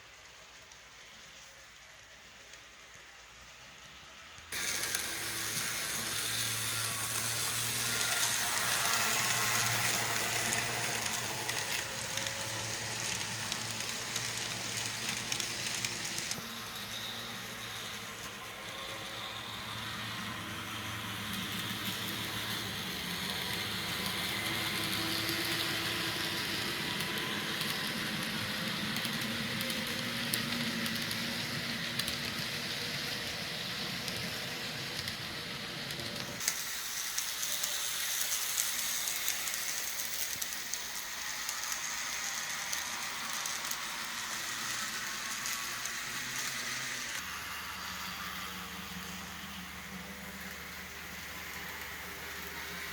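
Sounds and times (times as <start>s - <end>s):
small wheels hissing on rail: 0.0s - 52.9s.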